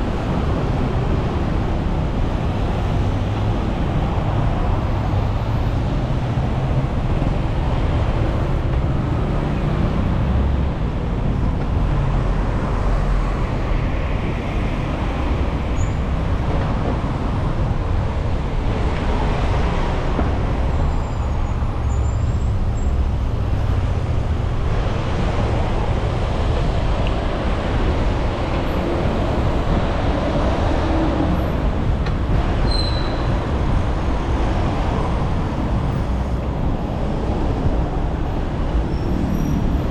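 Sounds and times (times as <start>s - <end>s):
city road traffic: 0.0s - 39.9s
wind rumble on microphone: 0.0s - 39.9s.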